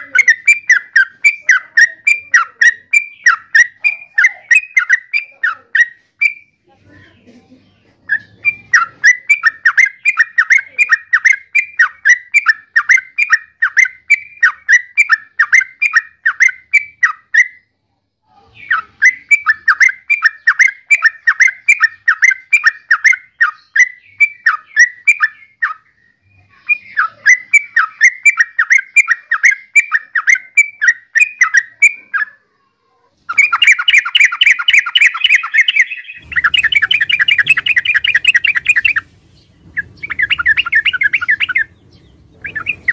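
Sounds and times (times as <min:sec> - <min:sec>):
bulbul calling: 0:00.0 - 0:06.6, 0:08.1 - 0:17.7, 0:18.5 - 0:32.4, 0:33.3 - 0:42.9.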